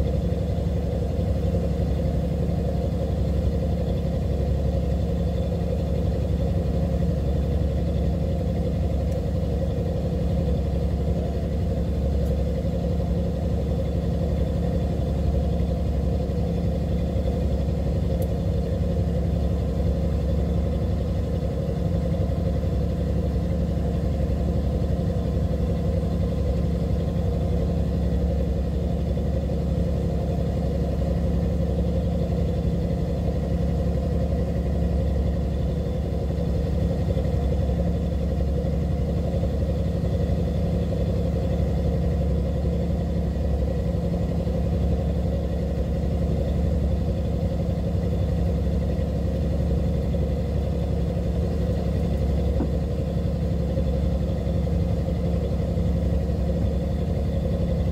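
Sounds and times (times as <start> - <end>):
boat engine droning: 0.0 - 57.9.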